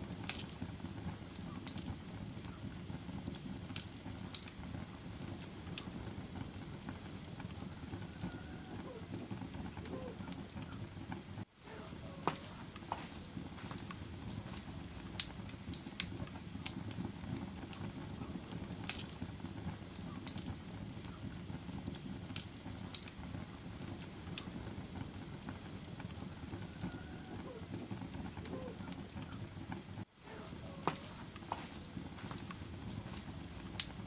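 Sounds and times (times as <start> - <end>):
fire crackling and rumbling: 0.0 - 34.0.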